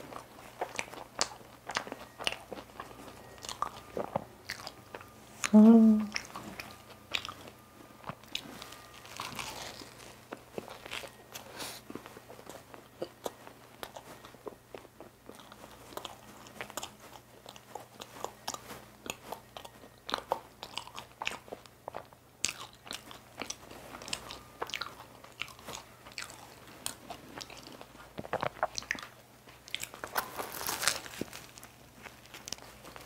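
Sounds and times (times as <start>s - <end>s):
person chewing: 0.0s - 33.0s.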